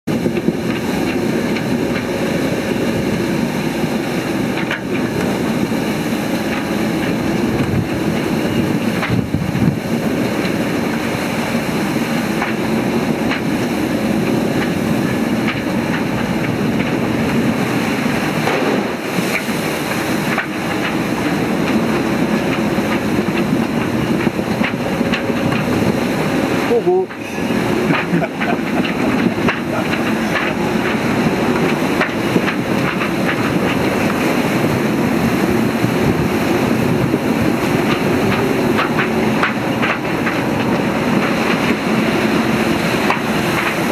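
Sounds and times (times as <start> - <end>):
wind and sea rushing: 0.0 - 43.9.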